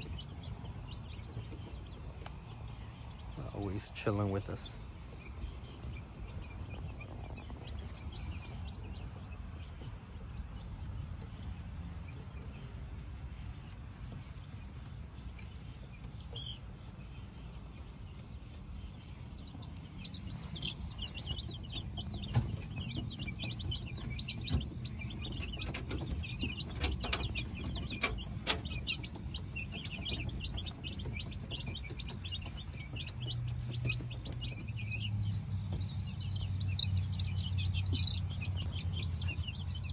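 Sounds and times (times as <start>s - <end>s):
chicks peeping: 0.0s - 39.9s
crickets chirping: 0.0s - 39.9s.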